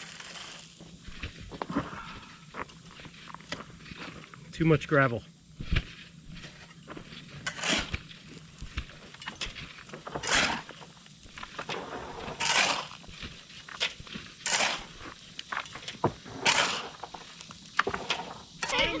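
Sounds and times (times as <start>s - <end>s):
shovel scraping gravel: 0.0s - 4.4s, 5.7s - 19.0s.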